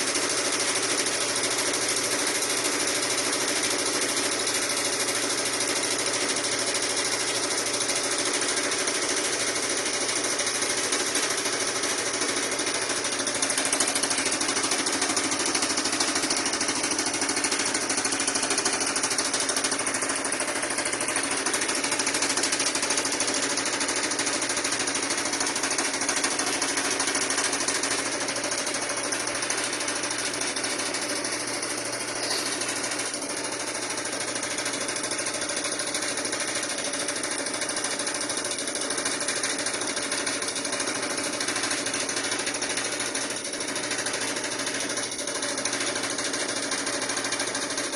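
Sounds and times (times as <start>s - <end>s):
washing machine running: 0.0s - 47.9s.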